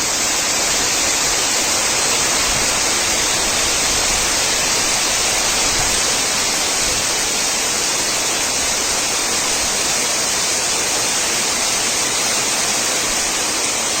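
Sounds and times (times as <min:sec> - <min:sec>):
heavy rain: 0:00.0 - 0:14.0
strong wind: 0:00.0 - 0:14.0.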